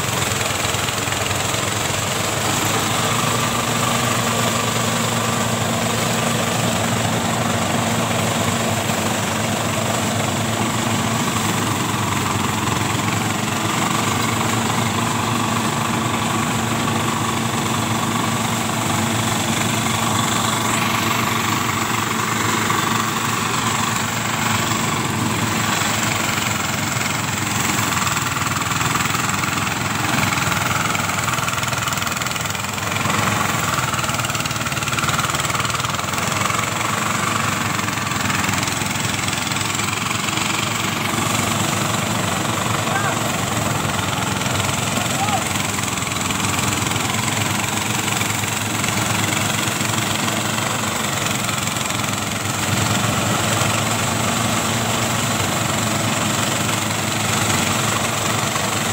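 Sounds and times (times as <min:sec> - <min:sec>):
rice thresher engine running: 0:00.0 - 0:58.9.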